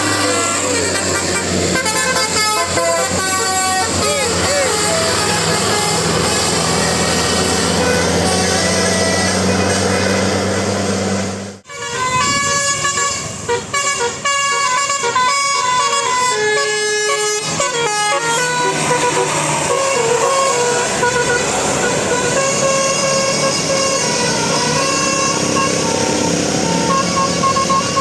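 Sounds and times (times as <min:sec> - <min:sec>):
musical air horn playing a tune: 0:00.0 - 0:10.1, 0:11.6 - 0:28.0
traffic noise: 0:00.0 - 0:28.0.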